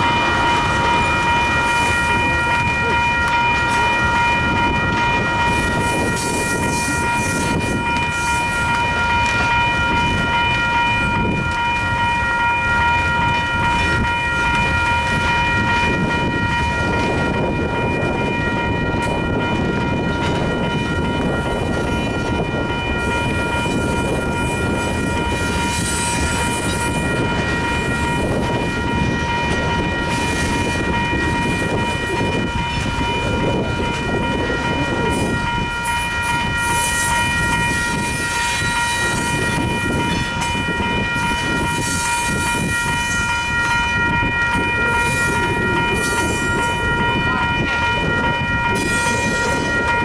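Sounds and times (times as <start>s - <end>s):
steady high-pitched tone: 0.0s - 50.0s
train wheels rumbling on rails: 0.0s - 50.0s.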